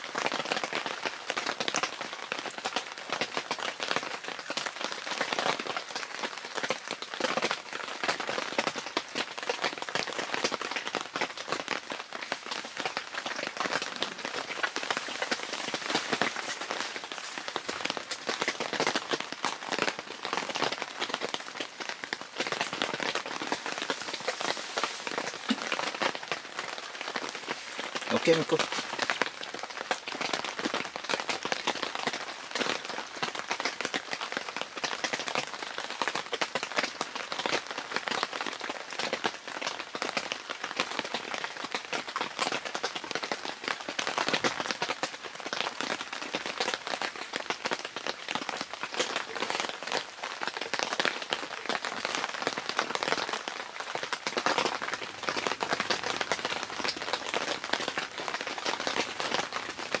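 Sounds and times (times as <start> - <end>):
rain on a tent: 0.0 - 60.0.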